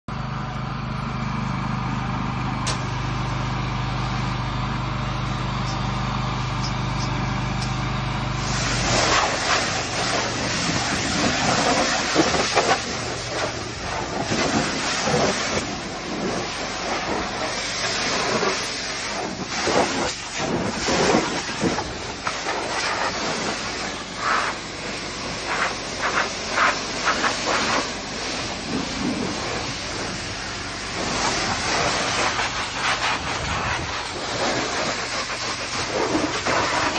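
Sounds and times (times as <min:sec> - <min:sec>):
engine hum: 0:00.1 - 0:36.9
pressure washer spraying water: 0:02.6 - 0:36.9.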